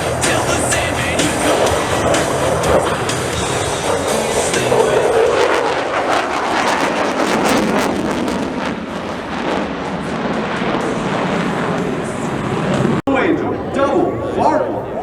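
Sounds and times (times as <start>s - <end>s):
jets roaring past: 0.0s - 15.0s.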